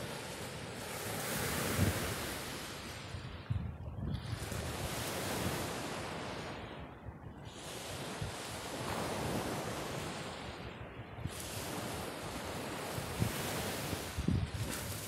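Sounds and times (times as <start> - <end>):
sea surf washing in: 0.0 - 15.0
wind on microphone: 0.0 - 15.0.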